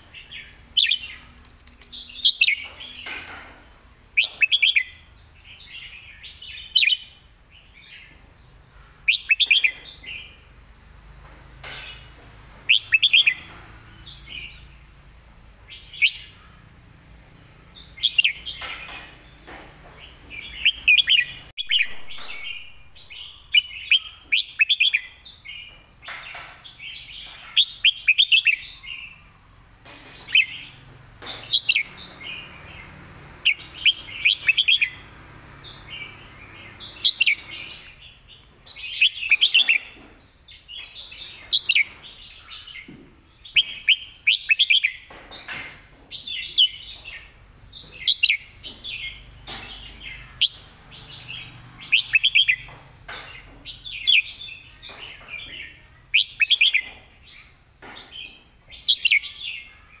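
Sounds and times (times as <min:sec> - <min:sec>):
bulbul singing: 0:00.0 - 0:10.6, 0:11.4 - 1:00.0.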